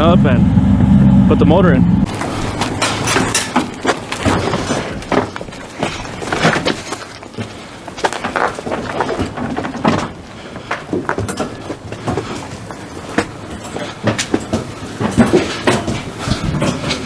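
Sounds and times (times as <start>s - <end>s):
tools clanking and clattering: 2.1s - 17.0s.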